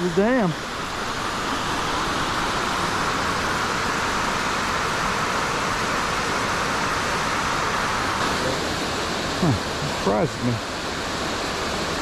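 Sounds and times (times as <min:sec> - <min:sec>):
water pouring over dam spillway: 0:00.0 - 0:12.0.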